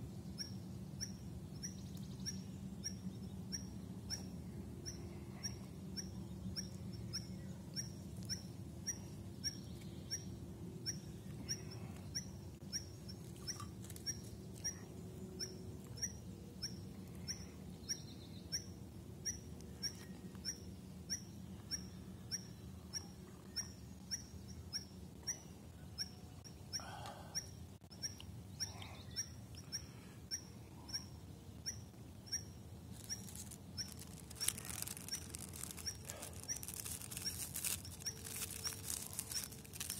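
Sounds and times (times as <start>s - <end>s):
low steady background noise: 0.0s - 39.9s
bird chirping high: 0.4s - 39.9s.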